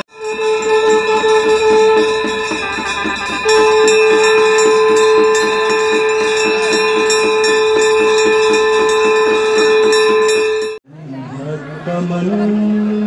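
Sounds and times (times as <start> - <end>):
bells struck rhythmically: 0.0 - 10.8
conch shells blown: 0.0 - 10.8.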